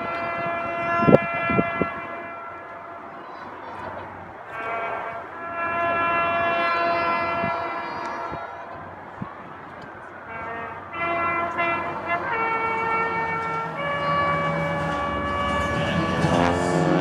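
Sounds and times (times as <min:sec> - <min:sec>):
brass instruments holding notes: 0:00.0 - 0:08.8, 0:10.1 - 0:17.0.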